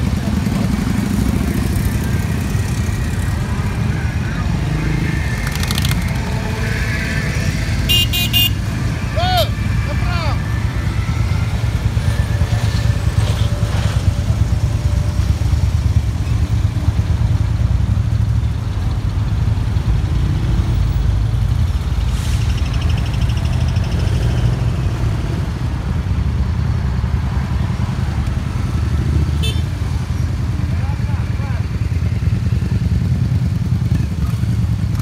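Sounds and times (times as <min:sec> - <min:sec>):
small motorcycle engines rumbling: 0:00.0 - 0:35.0.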